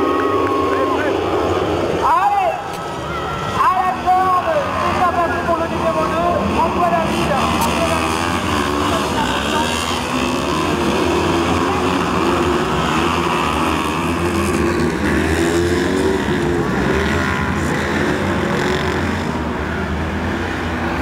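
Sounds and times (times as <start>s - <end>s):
racing engines revving: 0.0s - 21.0s.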